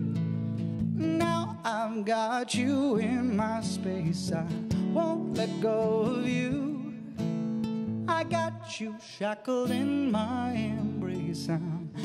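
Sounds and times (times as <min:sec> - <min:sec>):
acoustic guitar: 0:00.0 - 0:12.0
man singing: 0:01.0 - 0:07.2, 0:08.0 - 0:12.0.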